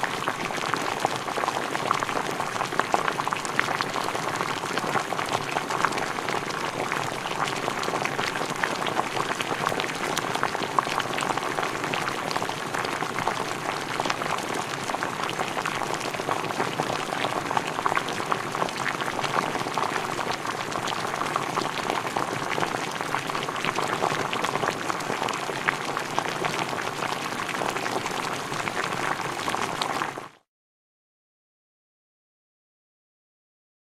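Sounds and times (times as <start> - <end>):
food boiling in a pot: 0.0 - 30.5.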